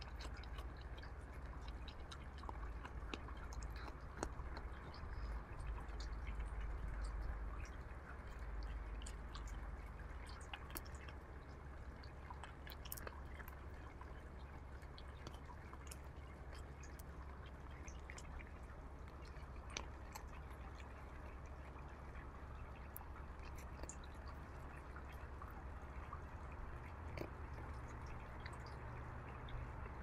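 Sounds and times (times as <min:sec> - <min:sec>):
low steady rumble: 0:00.0 - 0:30.0
raccoon chewing kibble: 0:00.0 - 0:30.0.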